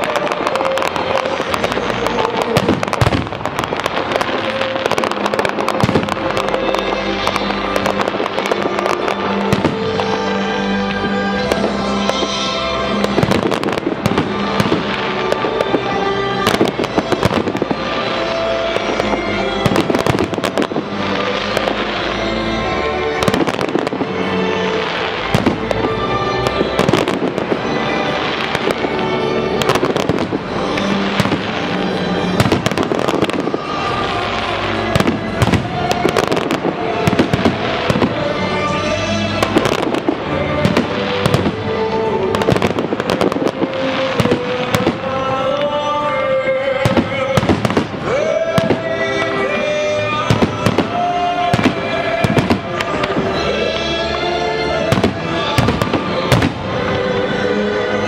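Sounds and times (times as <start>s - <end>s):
music playing: 0.0s - 58.0s.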